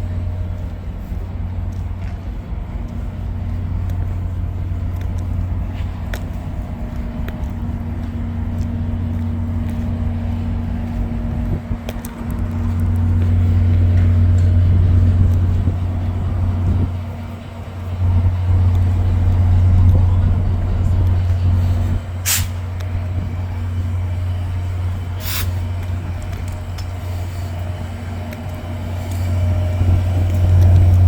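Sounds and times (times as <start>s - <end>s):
large engine idling: 0.0s - 31.0s.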